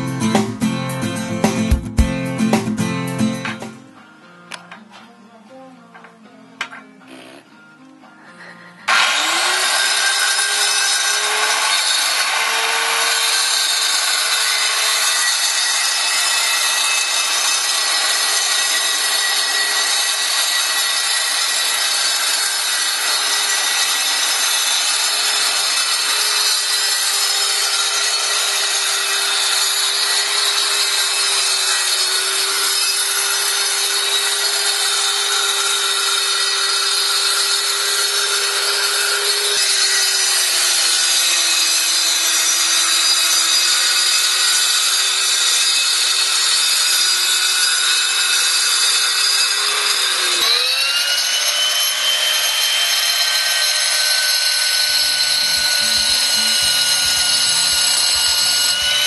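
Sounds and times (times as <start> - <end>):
circular saw cutting concrete: 8.8 - 59.0.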